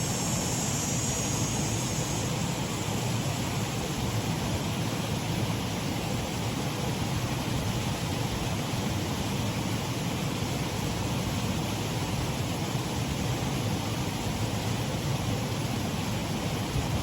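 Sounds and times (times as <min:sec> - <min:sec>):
water rushing over waterfall: 0:00.0 - 0:17.0.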